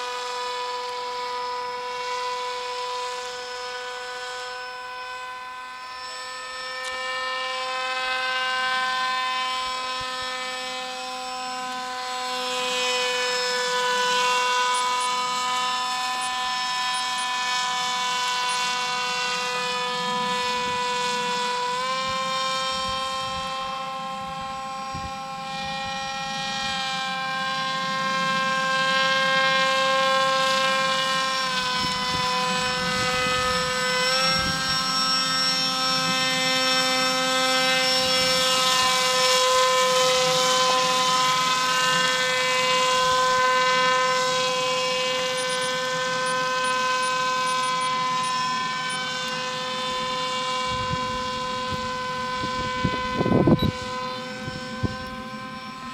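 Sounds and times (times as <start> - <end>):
paramotor engine droning: 0.0 - 55.9.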